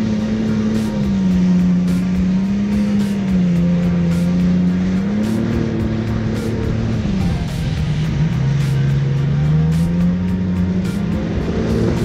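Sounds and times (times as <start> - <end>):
background music beat: 0.0 - 12.0
jet ski engine drone: 0.0 - 12.0
rushing water: 0.0 - 12.0.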